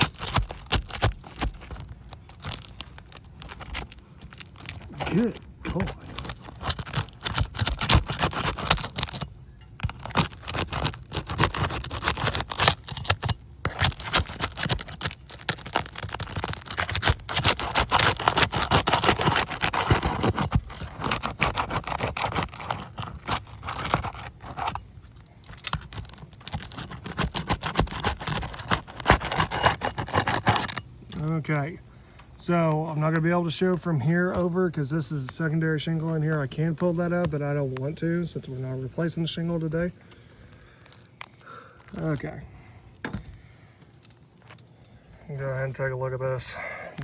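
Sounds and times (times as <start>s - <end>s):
roof shingles scraping and crackling: 0.0s - 31.7s, 32.4s - 47.0s.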